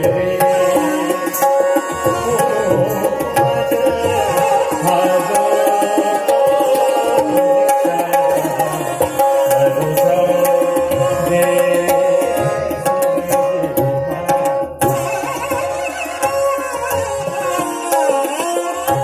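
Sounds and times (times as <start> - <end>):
tabla playing rhythm: 0.0 - 19.0.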